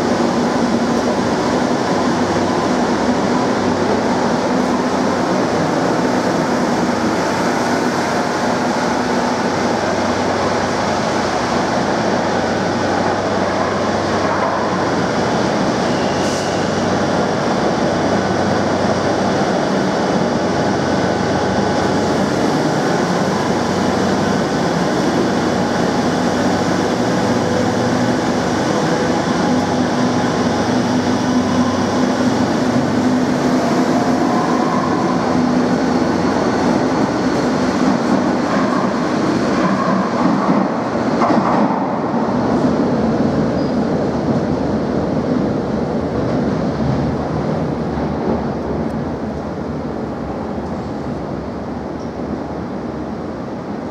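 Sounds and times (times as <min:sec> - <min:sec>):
metro train arriving and departing: 0:00.0 - 0:53.9.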